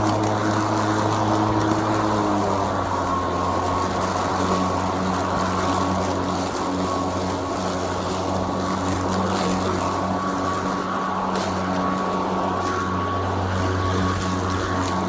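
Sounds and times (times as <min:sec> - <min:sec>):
electric lawn mower humming: 0:00.0 - 0:15.0.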